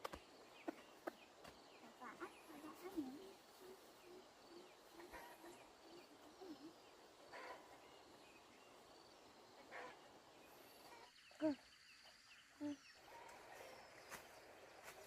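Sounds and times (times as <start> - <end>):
faint animal or bird calls: 1.8 - 14.3.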